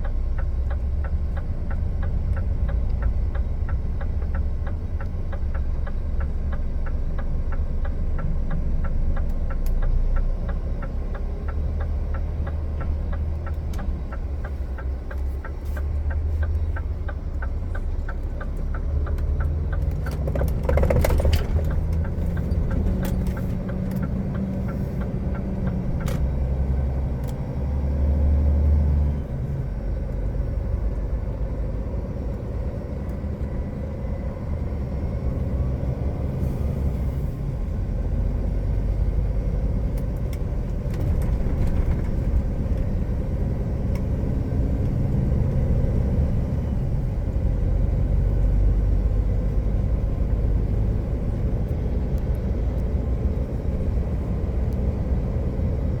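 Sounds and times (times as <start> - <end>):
road noise: 0.0 - 56.0
truck diesel engine rumbling: 0.0 - 56.0.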